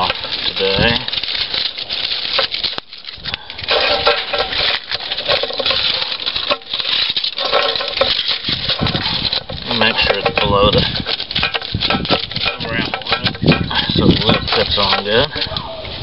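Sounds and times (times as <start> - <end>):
aluminium foil crinkling and tearing: 0.0 - 16.0.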